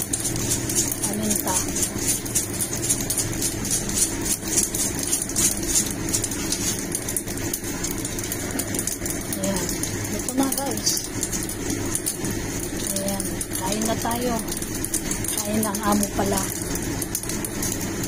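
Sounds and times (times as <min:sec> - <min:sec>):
spice grinder crunching: 0:00.0 - 0:18.0
steady low hum: 0:00.0 - 0:18.0.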